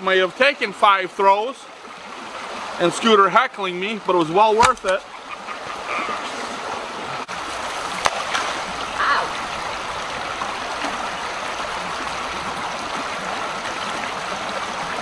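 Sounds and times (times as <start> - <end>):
creek water rushing over rocks: 0.0 - 15.0.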